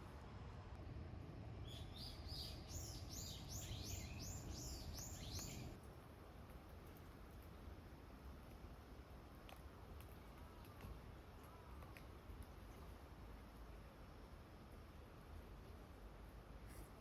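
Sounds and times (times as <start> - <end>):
faint low background noise: 0.0 - 17.0.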